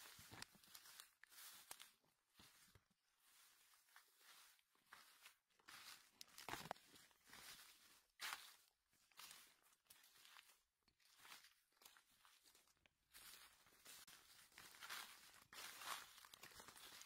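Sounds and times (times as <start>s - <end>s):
dry leaves rustling and crackling: 0.0s - 3.5s, 5.6s - 10.5s, 11.2s - 17.0s.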